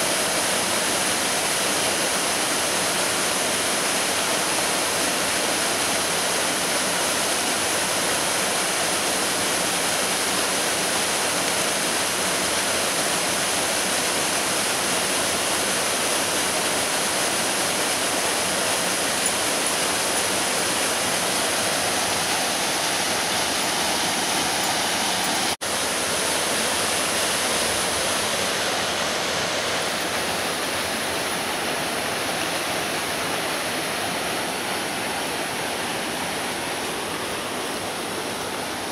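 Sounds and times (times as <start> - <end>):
waterfall and creek rushing: 0.0 - 38.9.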